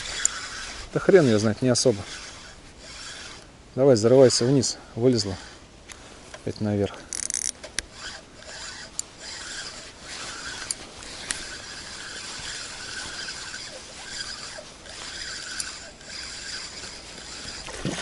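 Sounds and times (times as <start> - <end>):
fishing reel whirring: 0.0 - 5.6, 7.0 - 18.0.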